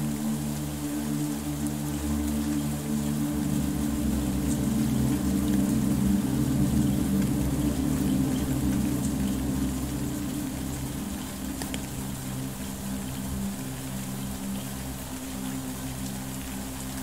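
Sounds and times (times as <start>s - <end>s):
low music drone: 0.0s - 17.0s
rain falling on puddle: 0.0s - 17.0s.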